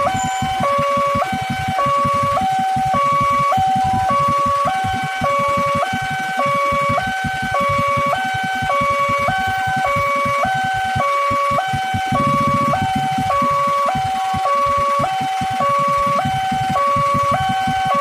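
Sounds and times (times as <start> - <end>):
two-tone level crossing alarm: 0.0 - 18.0.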